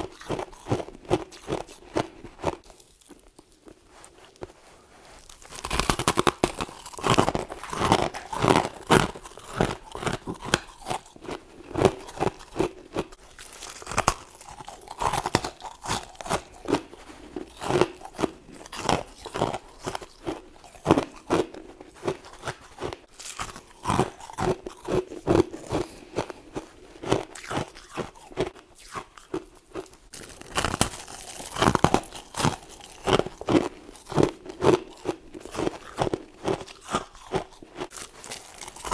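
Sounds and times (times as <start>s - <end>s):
person crunching frost: 0.0s - 38.9s.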